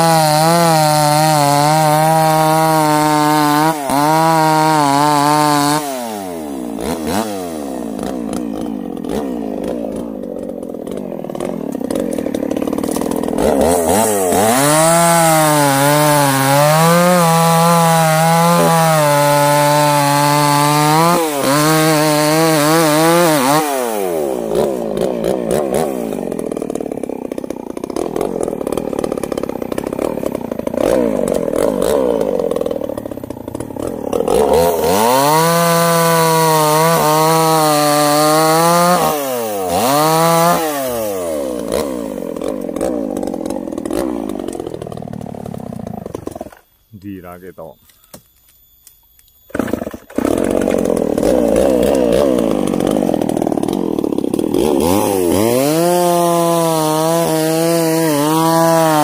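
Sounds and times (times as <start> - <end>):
chainsaw cutting log: 0.0 - 47.3, 49.4 - 59.0.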